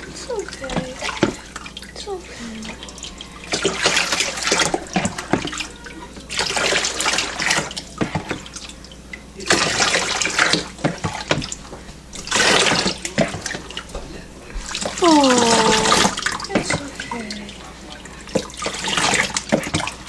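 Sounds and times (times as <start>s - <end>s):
water running and splashing: 0.0s - 20.0s.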